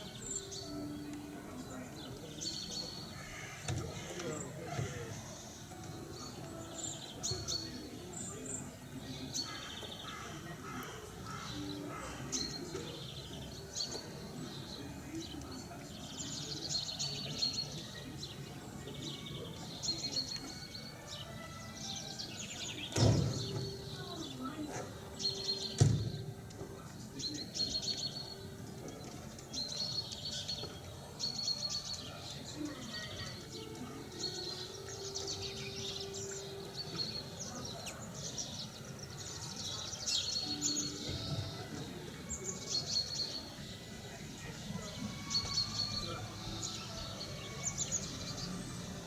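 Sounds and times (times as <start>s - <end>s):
outdoor background noise: 0.0s - 49.0s
small birds chirping: 0.0s - 49.0s
small songbird singing: 0.0s - 49.0s.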